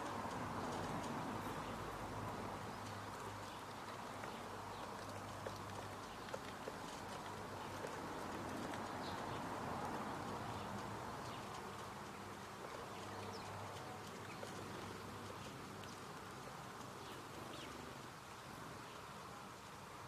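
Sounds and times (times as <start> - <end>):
small ticks: 0.0 - 19.8.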